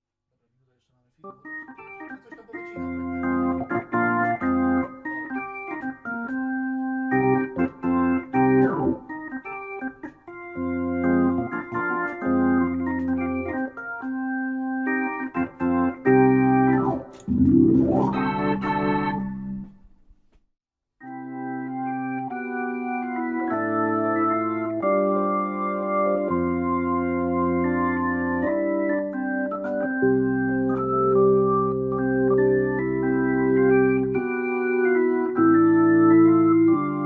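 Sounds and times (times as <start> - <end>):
organ playing chords: 1.3 - 19.7, 21.0 - 37.0.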